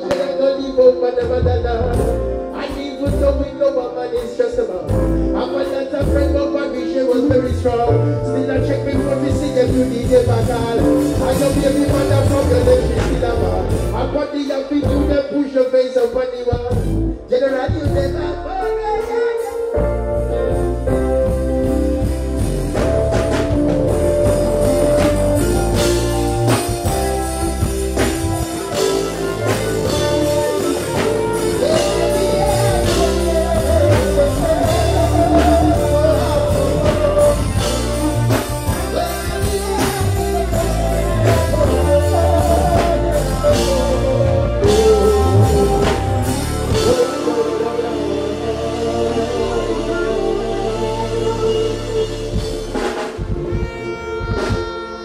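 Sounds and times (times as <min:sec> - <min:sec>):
person singing: 0:00.0 - 0:16.8, 0:17.4 - 0:55.0
live band music: 0:00.0 - 0:55.0.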